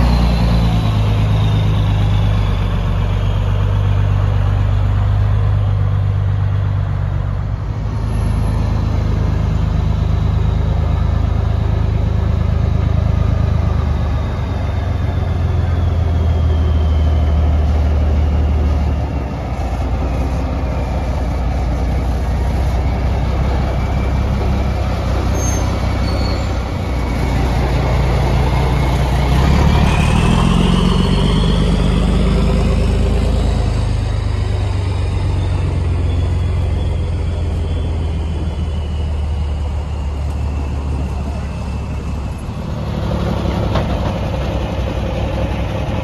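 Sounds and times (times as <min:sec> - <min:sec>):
heavy engine droning: 0:00.0 - 0:46.0
second engine rising in pitch: 0:00.0 - 0:46.0.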